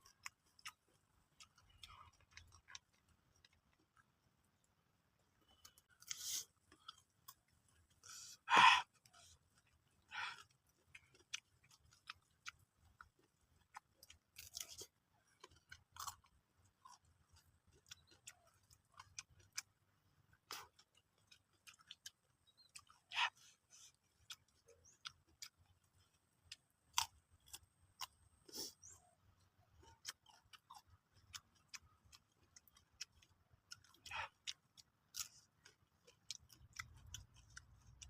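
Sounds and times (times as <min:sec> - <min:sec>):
person chewing crunchy fruit: 0:00.0 - 0:38.0.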